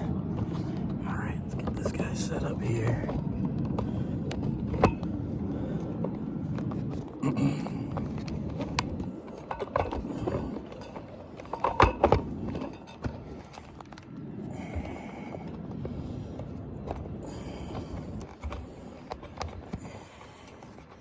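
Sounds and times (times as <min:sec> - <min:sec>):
low handling rumble: 0:00.0 - 0:20.4.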